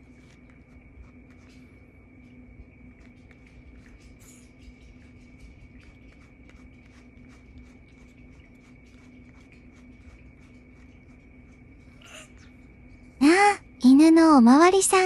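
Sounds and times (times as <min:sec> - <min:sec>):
brush strokes through cat fur: 0:00.0 - 0:12.2
faint steady hum: 0:00.0 - 0:15.0.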